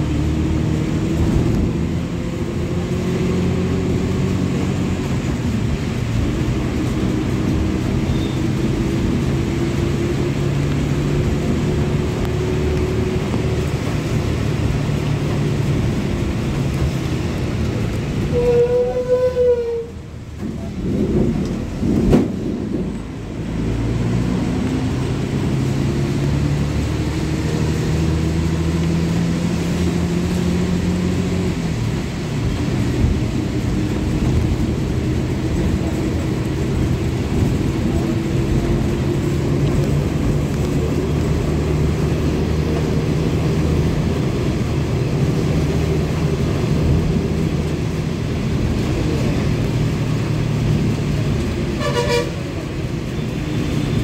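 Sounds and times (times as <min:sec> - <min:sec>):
road noise: 0:00.0 - 0:54.0
vehicle engine drone: 0:00.0 - 0:54.0.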